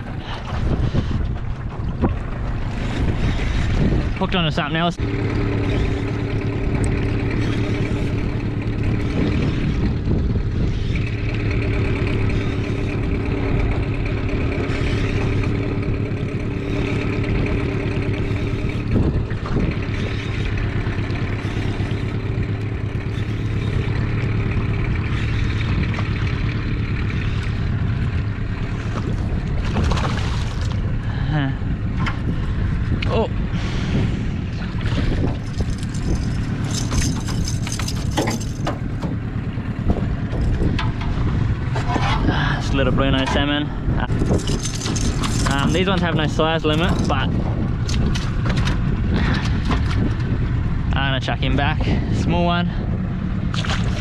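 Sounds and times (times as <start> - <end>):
outboard motor humming: 0.0 - 54.0.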